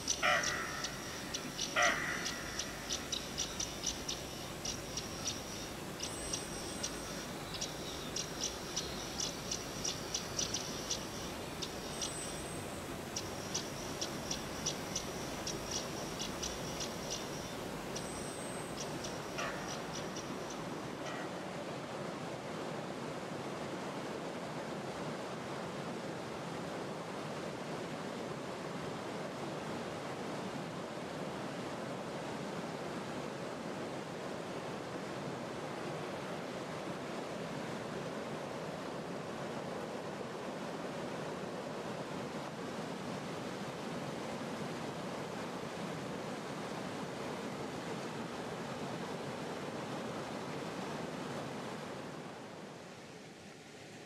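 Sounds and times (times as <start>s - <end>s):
stream rushing over rocks: 8.2s - 54.0s.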